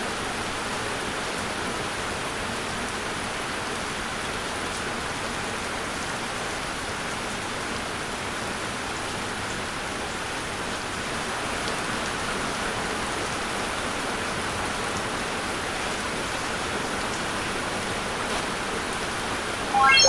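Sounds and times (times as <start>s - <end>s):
steady rain falling: 0.0s - 19.6s.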